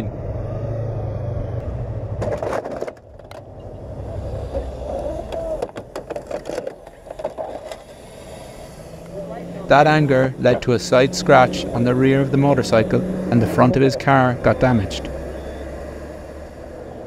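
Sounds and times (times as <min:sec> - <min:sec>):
motorcycle engine: 0:00.0 - 0:17.0
road noise: 0:00.0 - 0:17.0.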